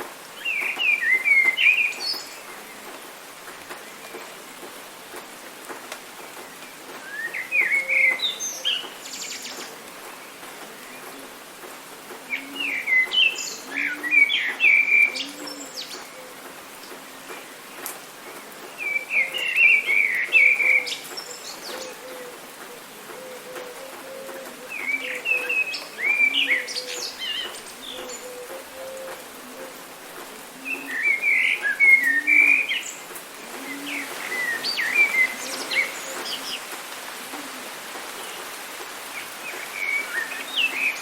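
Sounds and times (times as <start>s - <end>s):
rain hiss: 0.0s - 41.0s
songbird chirping: 0.0s - 41.0s.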